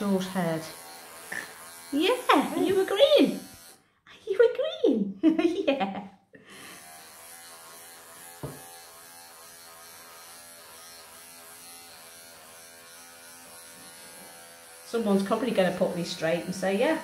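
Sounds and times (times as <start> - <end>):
electric clippers buzzing: 0.0 - 3.8, 6.5 - 17.0.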